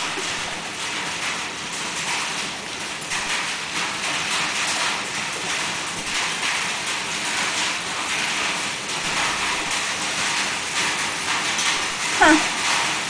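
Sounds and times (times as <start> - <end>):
hail and rain falling: 0.0 - 13.0.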